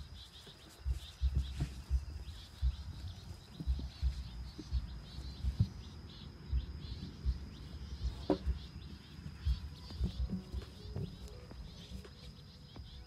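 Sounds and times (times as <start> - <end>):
high insect drone: 0.0 - 13.0
small birds chirping: 0.0 - 13.0
low thumps: 0.8 - 13.0.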